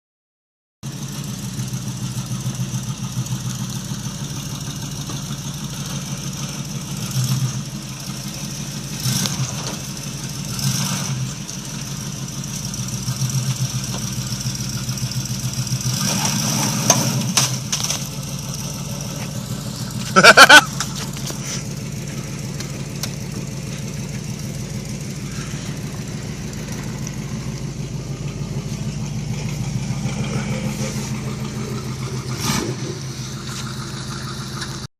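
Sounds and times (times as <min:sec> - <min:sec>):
truck engine running low: 0:00.8 - 0:34.9.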